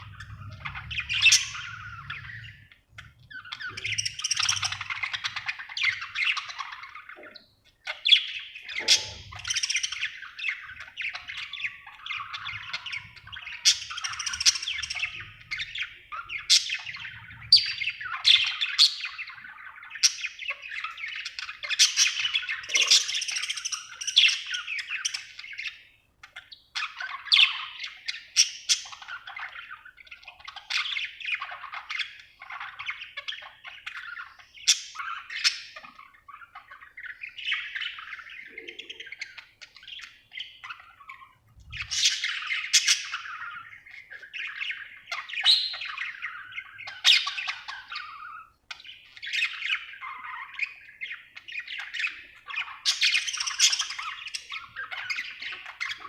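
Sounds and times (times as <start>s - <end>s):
budgerigar chirping and warbling: 0.0s - 56.0s.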